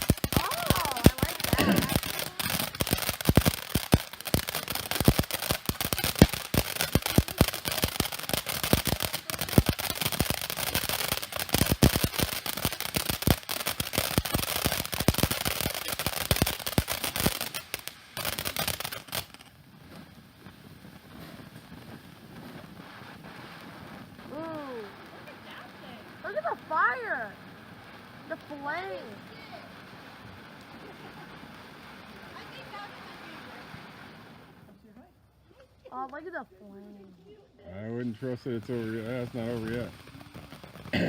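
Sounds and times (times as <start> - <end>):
firework fountain crackling and hissing: 0.0 - 41.0.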